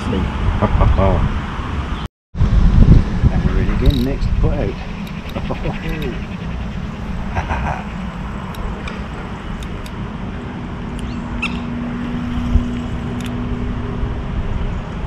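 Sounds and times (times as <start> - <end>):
steady low rumble: 0.3 - 1.6, 2.4 - 15.0
steady low hum: 2.4 - 15.0.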